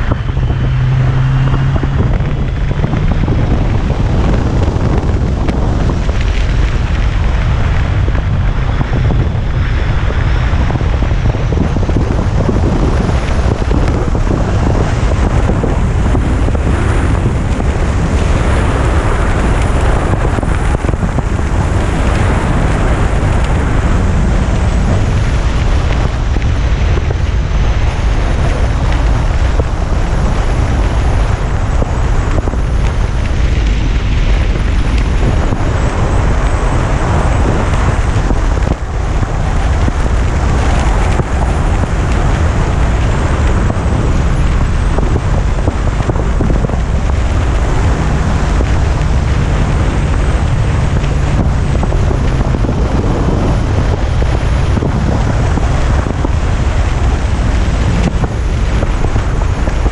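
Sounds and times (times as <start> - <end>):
motorcycle engine droning: 0.0 - 59.9
road noise: 0.0 - 59.9
wind rush: 0.0 - 59.9.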